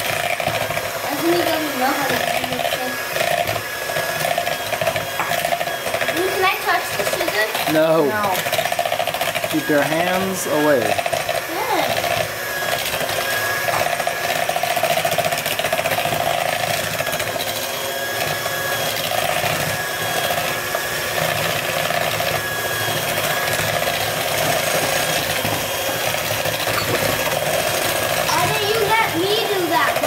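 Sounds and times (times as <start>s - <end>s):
electric hand mixer whining: 0.0s - 30.0s.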